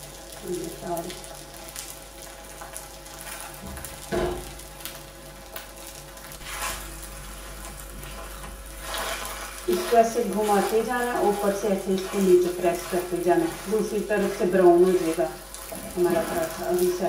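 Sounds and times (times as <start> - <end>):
dough sizzling in oil: 0.0 - 17.0.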